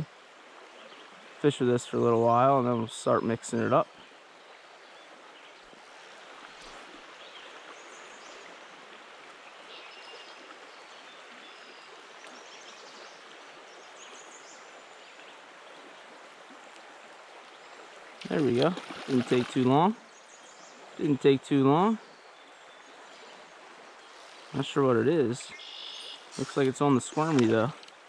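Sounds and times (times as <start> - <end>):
stream water running: 0.0 - 28.0.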